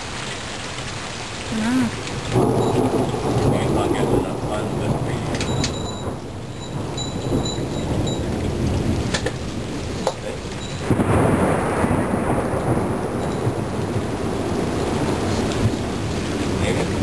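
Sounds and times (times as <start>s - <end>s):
steady rain: 0.0s - 17.0s
thunder rumbling: 1.5s - 17.0s.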